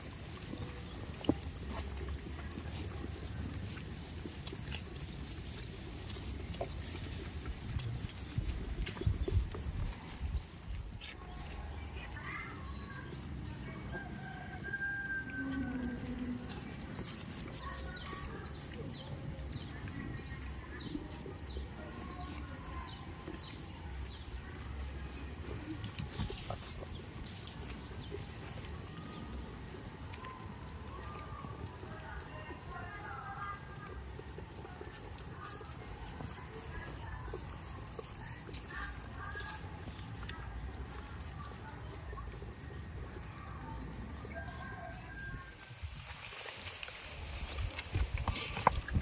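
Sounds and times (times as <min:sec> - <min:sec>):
goats moving about: 0:00.0 - 0:49.0.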